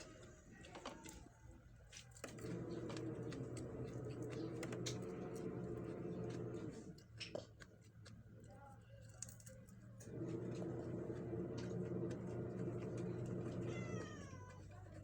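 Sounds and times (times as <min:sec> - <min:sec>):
chewing: 0:01.9 - 0:15.0.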